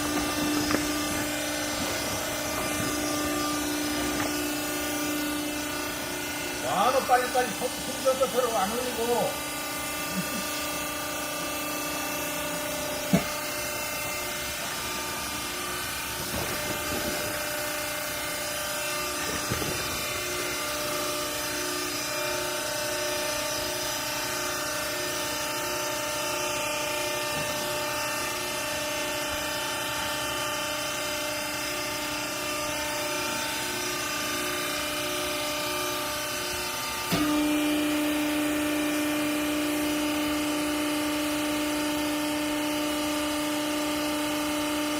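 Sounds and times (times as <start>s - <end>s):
hydraulic press humming: 0.0s - 44.9s.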